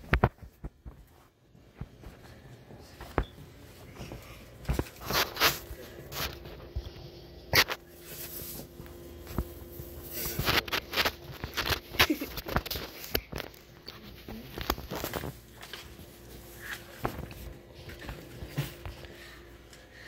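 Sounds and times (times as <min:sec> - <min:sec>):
footsteps: 0:00.0 - 0:19.8
faint steady hum: 0:00.0 - 0:20.0.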